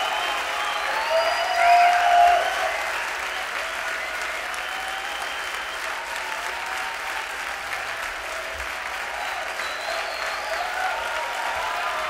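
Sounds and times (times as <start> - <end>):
crowd applause: 0.0 - 12.0.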